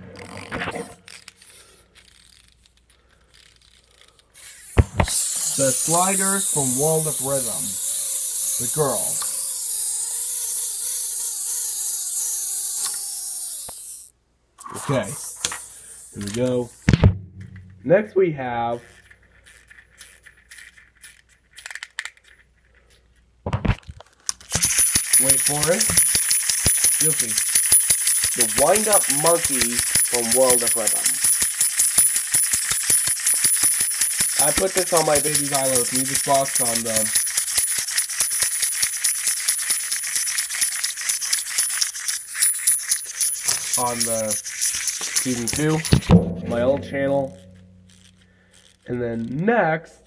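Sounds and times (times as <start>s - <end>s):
toys rattling: 0.0s - 17.9s, 18.7s - 49.4s
toys clicking and tapping: 1.1s - 14.1s, 18.8s - 49.4s.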